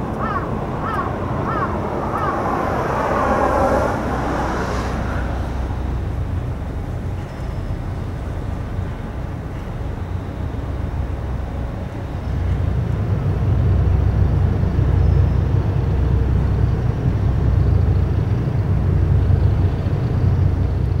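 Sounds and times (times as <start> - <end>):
diesel engines rumbling: 0.0 - 21.0.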